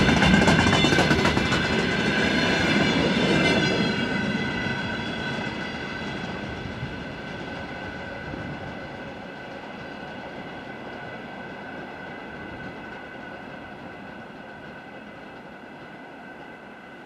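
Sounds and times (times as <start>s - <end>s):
diesel train rumbling by: 0.0s - 17.0s.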